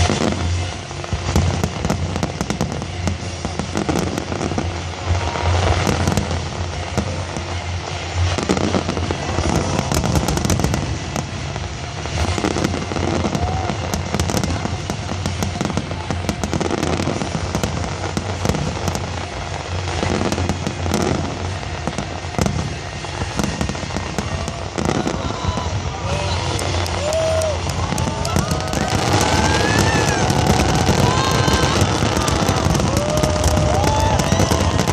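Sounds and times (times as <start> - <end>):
fireworks crackling and popping: 0.0 - 34.9
steady low rumble: 0.0 - 34.9.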